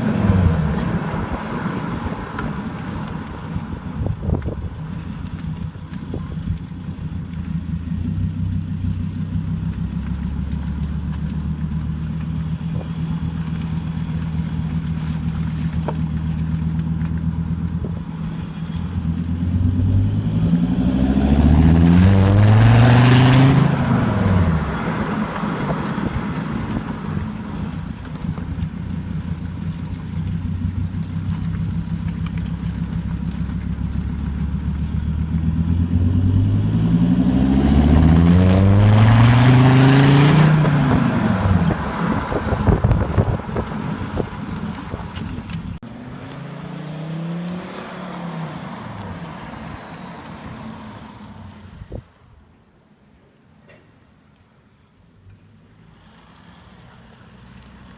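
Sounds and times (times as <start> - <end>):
diesel engine running and revving: 0.0 - 52.0.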